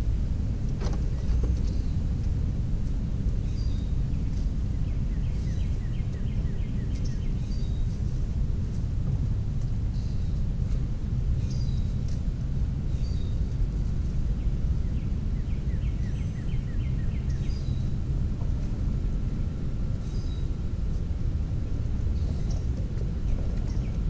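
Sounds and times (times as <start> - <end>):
low rumble: 0.0 - 24.0
songbirds chirping: 0.0 - 24.0.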